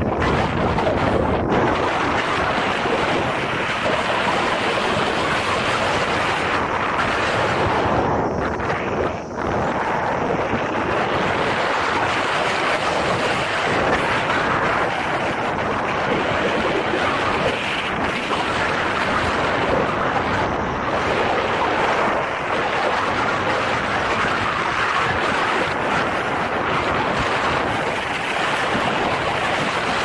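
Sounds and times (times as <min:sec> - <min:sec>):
wind rushing across microphone: 0:00.0 - 0:30.0.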